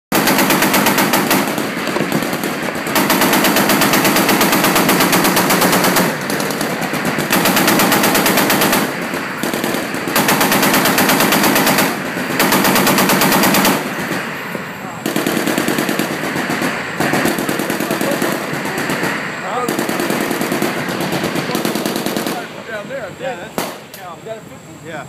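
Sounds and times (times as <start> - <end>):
machine gun firing bursts: 0.1 - 22.8.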